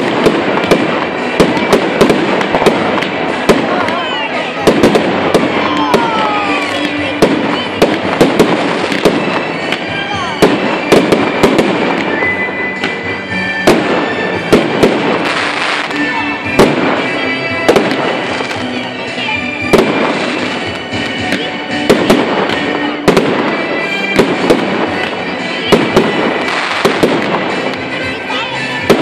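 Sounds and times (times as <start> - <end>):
firework bangs: 0.0 - 29.0
firework crackling: 0.0 - 29.0
firework whistles: 4.4 - 29.0.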